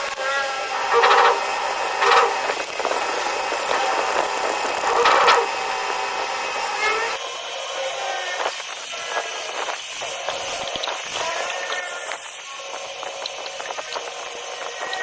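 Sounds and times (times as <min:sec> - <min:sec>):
grinding wheel grinding steel: 0:00.0 - 0:15.0.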